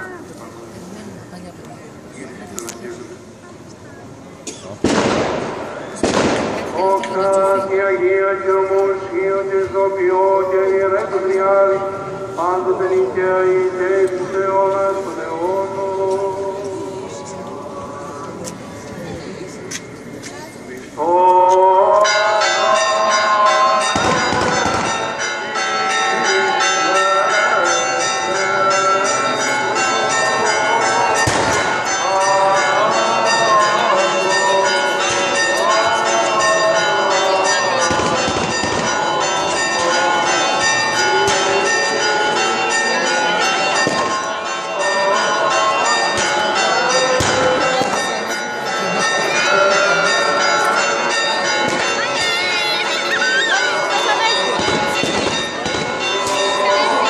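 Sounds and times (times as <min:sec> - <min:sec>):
church bells pealing: 0:06.4 - 0:18.5, 0:21.0 - 0:57.0.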